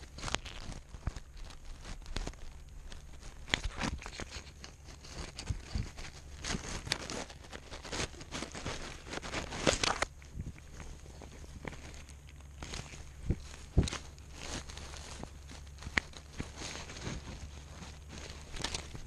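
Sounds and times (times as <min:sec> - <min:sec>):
dry grass crackling: 0:00.0 - 0:19.0
fur rubbing against camera: 0:00.0 - 0:19.0
small clicks and scrapes: 0:00.0 - 0:19.0.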